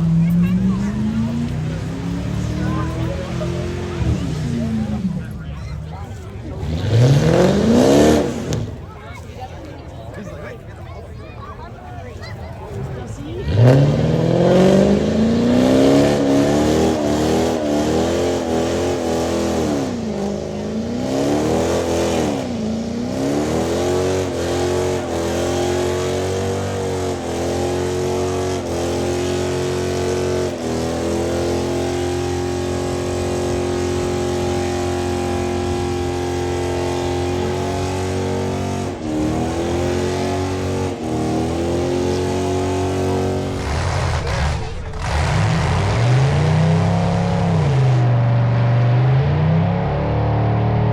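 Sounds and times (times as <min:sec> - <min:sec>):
car engine revving: 0:00.0 - 0:10.6, 0:12.0 - 0:50.9.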